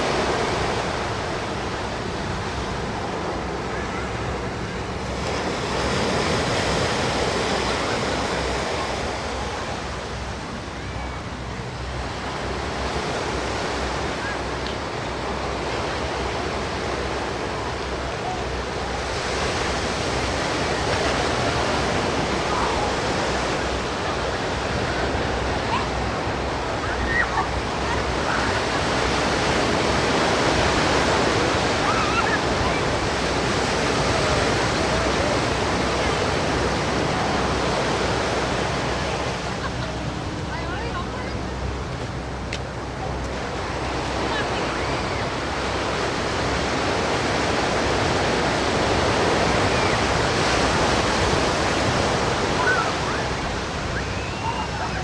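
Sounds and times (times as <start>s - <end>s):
ocean surf breaking on sand: 0.0s - 55.0s.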